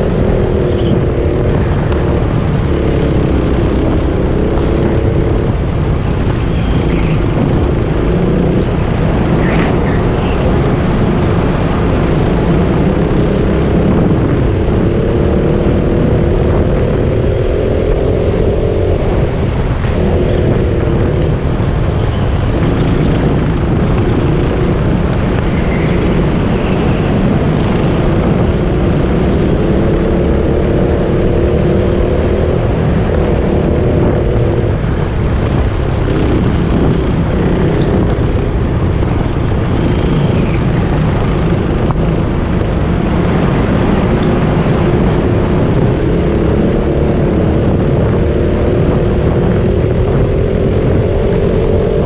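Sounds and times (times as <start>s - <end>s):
wind and track rumble: 0.0s - 52.0s.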